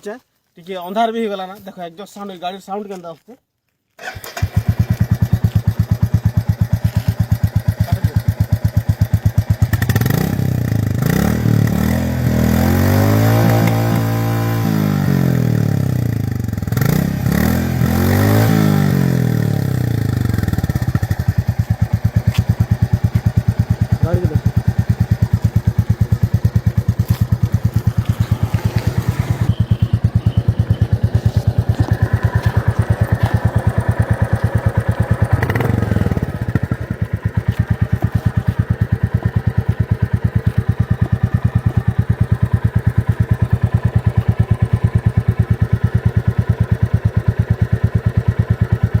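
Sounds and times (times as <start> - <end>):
motorcycle engine idling: 4.4 - 49.0.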